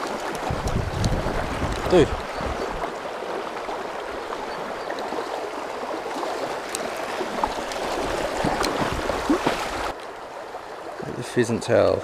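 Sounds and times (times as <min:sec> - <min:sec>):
river water rushing over stones: 0:00.0 - 0:11.9.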